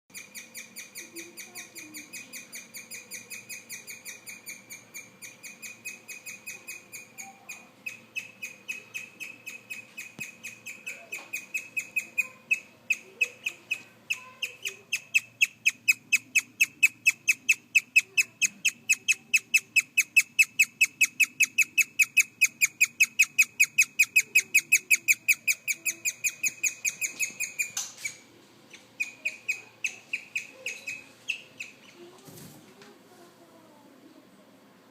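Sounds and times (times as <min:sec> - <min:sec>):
guinea pig chirping: 0:00.1 - 0:32.3.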